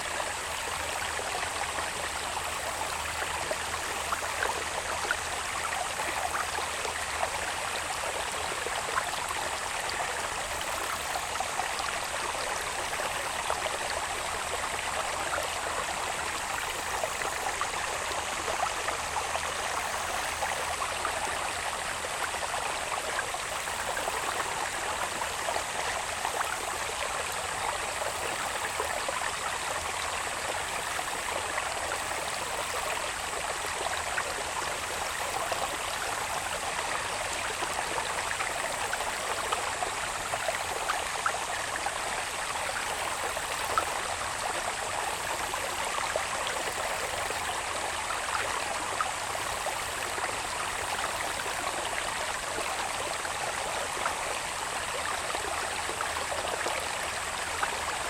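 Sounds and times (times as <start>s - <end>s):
water babbling in a channel: 0.0s - 58.0s.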